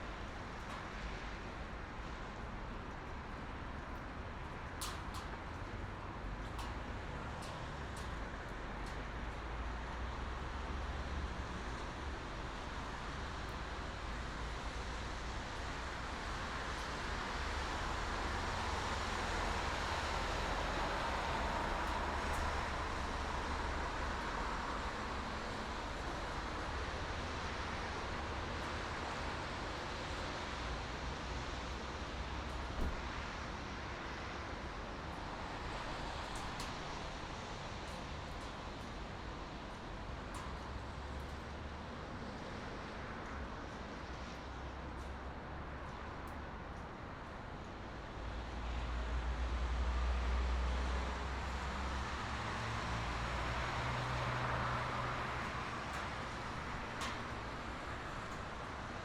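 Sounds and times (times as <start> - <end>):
road traffic hiss and rumble: 0.0 - 59.0.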